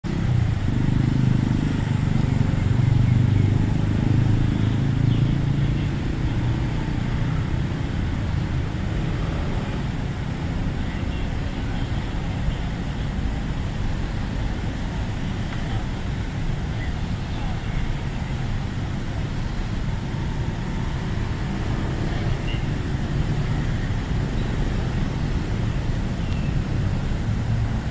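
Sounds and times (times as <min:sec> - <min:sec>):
road traffic hum: 0:00.0 - 0:27.9.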